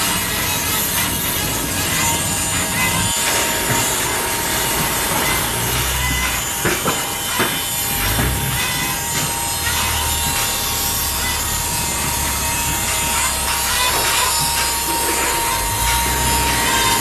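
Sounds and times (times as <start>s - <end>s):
industrial machine rasping and whining: 0.0s - 17.0s.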